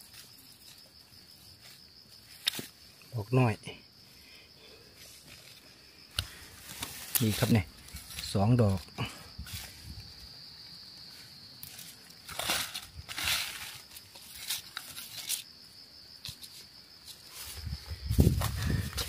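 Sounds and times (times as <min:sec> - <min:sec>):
high-pitched insect drone: 0:00.0 - 0:19.0
rustling of leaves and brush: 0:00.0 - 0:19.0.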